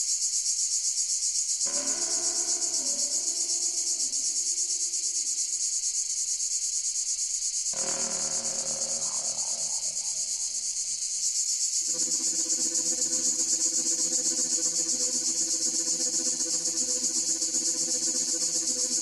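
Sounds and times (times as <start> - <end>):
cicadas singing in chorus: 0.0 - 19.0.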